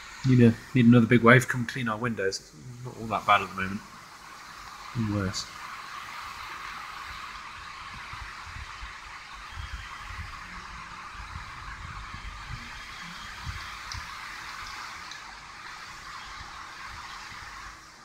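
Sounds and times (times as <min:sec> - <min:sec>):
storm waves hissing through window: 0:00.0 - 0:18.0.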